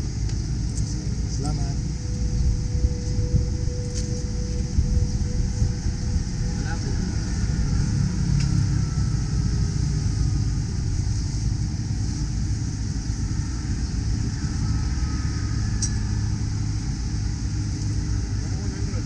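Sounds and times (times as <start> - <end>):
low street rumble: 0.0 - 19.0.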